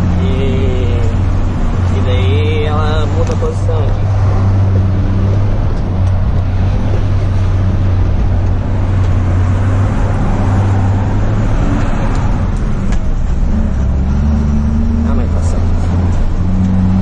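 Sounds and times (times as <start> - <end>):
road noise: 0.0 - 17.0
truck diesel engine drone: 0.0 - 17.0.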